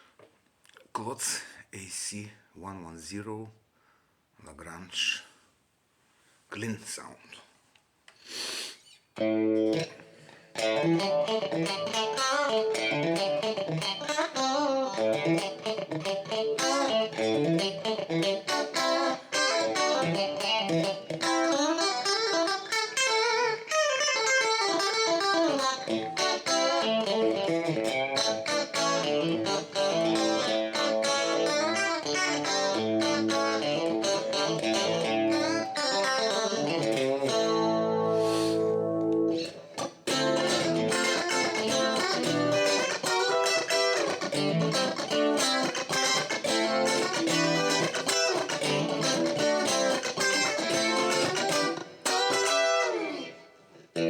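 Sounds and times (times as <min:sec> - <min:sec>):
clean electric guitar: 0:09.2 - 0:54.0.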